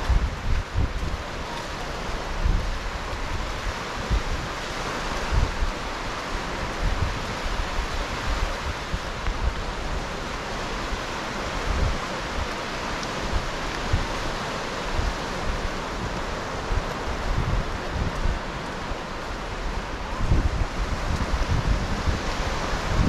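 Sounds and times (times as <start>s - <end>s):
surf washing up a beach: 0.0s - 23.0s
wind buffeting microphone: 0.0s - 23.0s.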